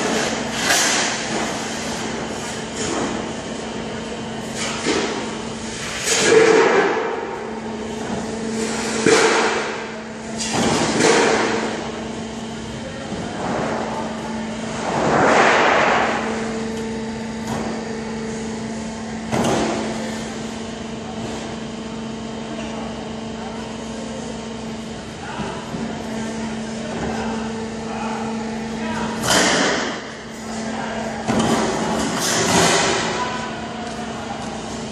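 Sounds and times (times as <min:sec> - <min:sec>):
folding machine humming: 0:00.0 - 0:34.9.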